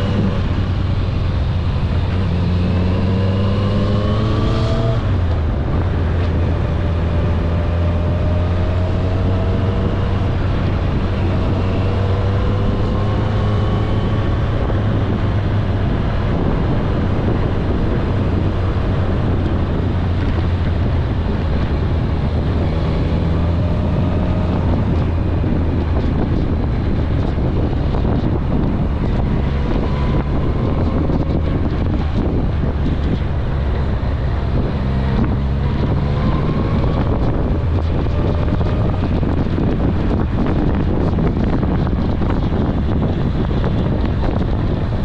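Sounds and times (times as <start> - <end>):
motorcycle engine cruising: 0.0 - 45.0
wind rush on microphone: 0.0 - 45.0.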